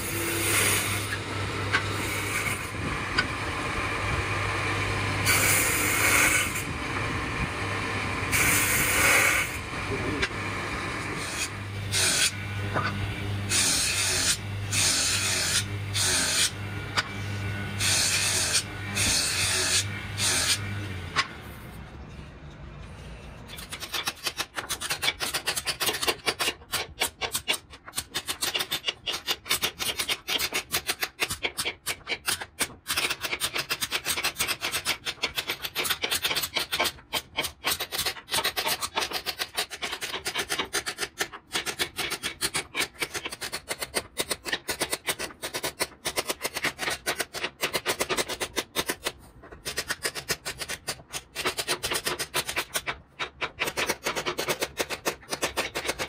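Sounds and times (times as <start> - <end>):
hand tool scraping wood: 5.2 - 6.7, 11.0 - 21.8, 22.8 - 56.0.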